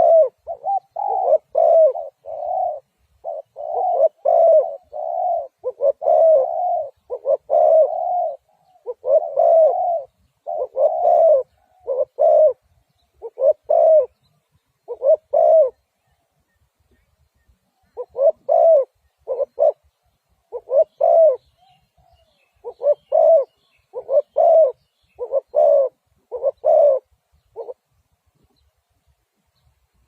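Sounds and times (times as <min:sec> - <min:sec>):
dove cooing: 0:00.0 - 0:28.6.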